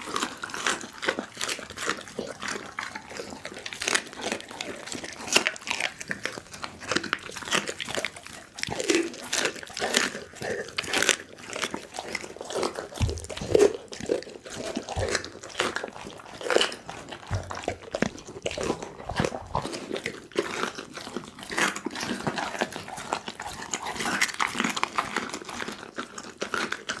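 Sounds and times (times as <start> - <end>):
dog chewing and crunching bone: 0.0 - 27.0.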